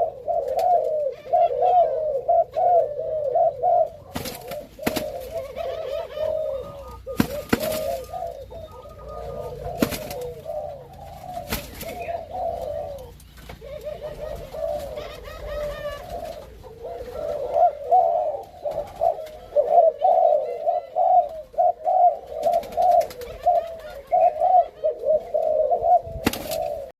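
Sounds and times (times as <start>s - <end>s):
dove cooing: 0.0s - 26.9s.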